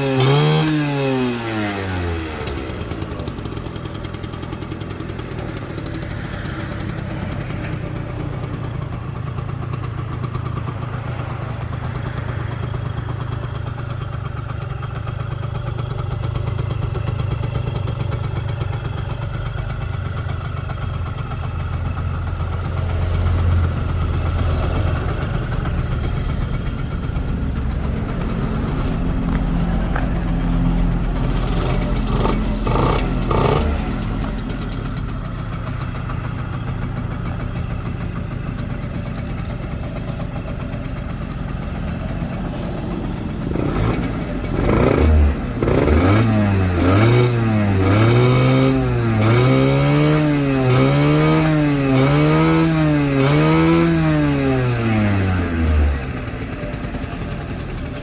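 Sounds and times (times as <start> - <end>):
two-stroke motorcycle idling: 0.0 - 58.0.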